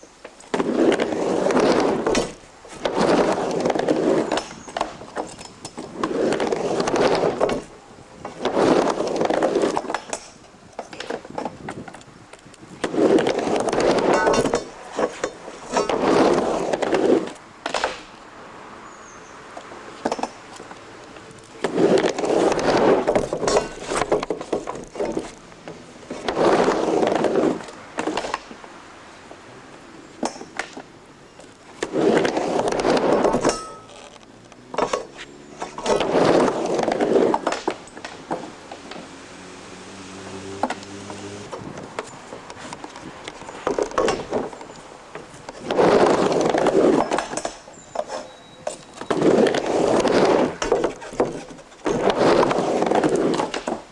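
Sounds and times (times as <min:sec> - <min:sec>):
skateboard wheels rolling on ramp: 0:00.0 - 0:18.2, 0:19.2 - 0:53.9.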